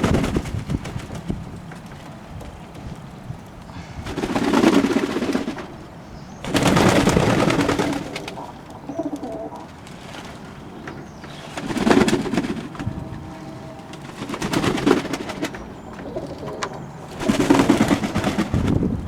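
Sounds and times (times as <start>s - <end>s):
pigeons cooing: 2.1s - 19.0s.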